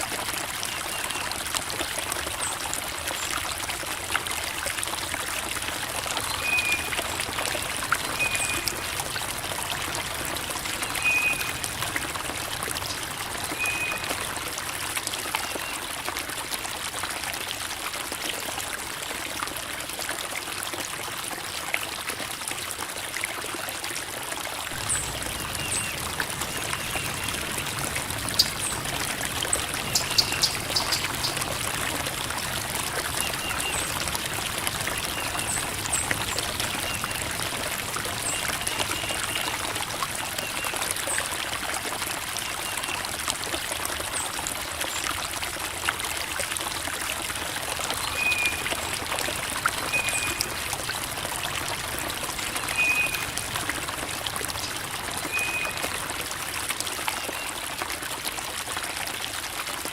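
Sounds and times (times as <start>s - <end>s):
creek water babbling over rocks: 0.0s - 59.9s.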